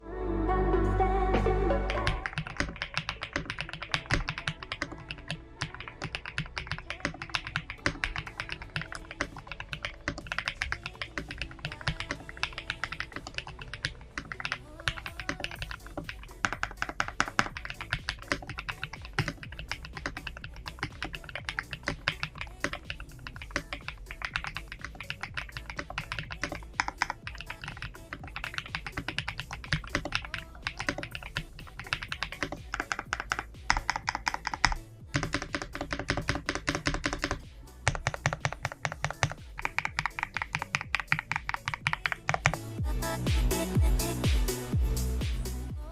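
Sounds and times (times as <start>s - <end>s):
mechanical keyboard typing: 1.9s - 42.7s.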